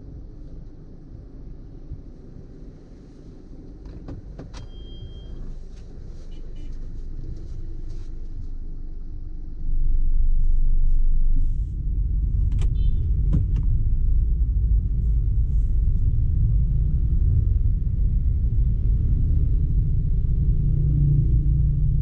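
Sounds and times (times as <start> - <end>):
vehicle rumble in traffic: 0.0 - 22.0.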